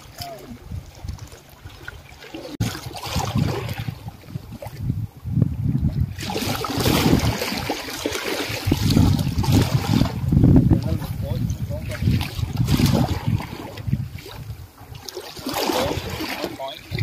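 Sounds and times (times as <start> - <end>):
sea water washing against rocks: 0.0 - 5.0, 5.9 - 17.0
wind buffeting microphone: 0.0 - 17.0.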